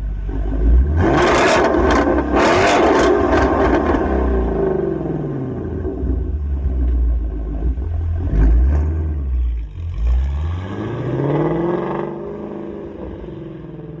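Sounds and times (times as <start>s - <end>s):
car engine revving: 0.3s - 14.0s.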